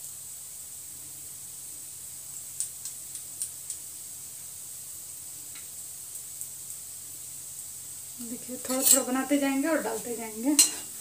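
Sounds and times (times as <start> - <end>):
dough balls sizzling in hot oil: 0.0 - 11.0
sharp popping of frying oil: 0.0 - 11.0.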